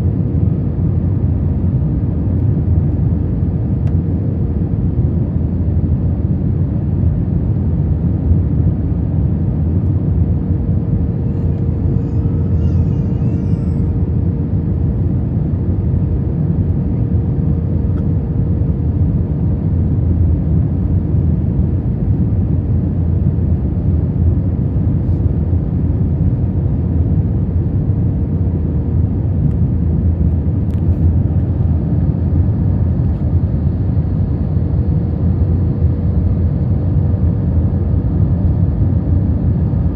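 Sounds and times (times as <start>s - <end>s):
aircraft engines and airflow rumble: 0.0s - 39.9s.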